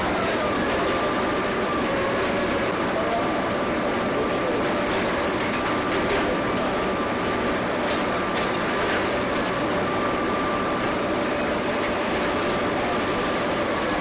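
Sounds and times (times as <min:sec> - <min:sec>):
ship engine droning: 0:00.0 - 0:14.0.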